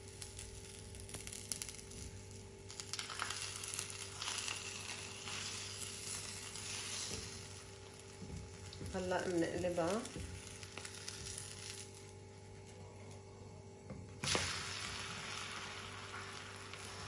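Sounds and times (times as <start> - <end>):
egg sizzling in a pan: 0.0 - 12.8, 14.2 - 17.0.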